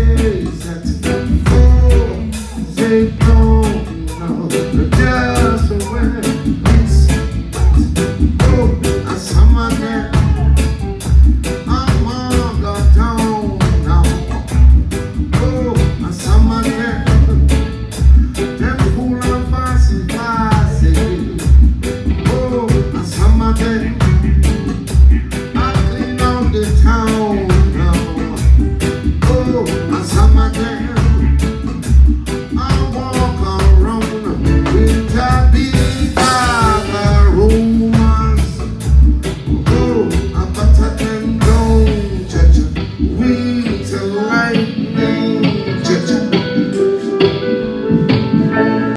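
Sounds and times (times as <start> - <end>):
band playing a song: 0.0 - 48.9
person singing lead vocals: 0.0 - 48.9.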